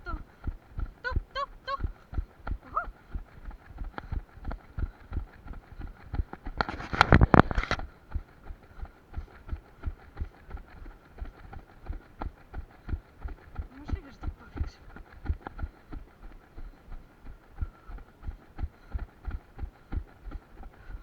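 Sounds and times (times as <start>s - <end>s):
running footsteps on trail: 0.0s - 21.0s.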